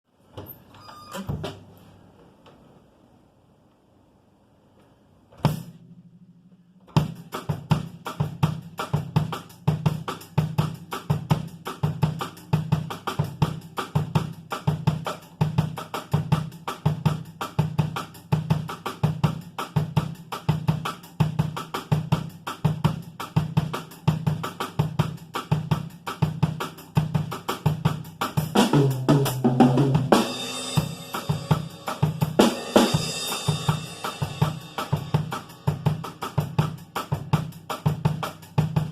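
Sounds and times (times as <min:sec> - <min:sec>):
drum kit groove: 0:05.4 - 0:38.9.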